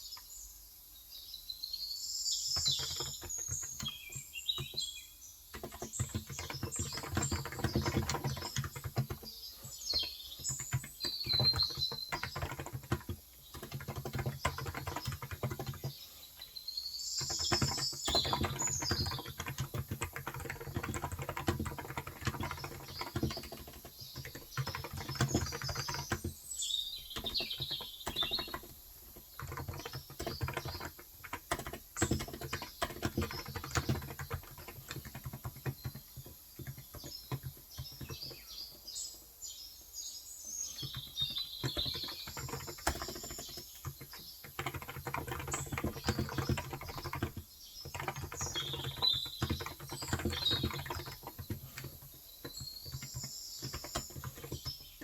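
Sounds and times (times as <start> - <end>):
birds chirping: 0.0 - 55.0
fast keyboard typing: 2.4 - 38.5, 40.6 - 55.0.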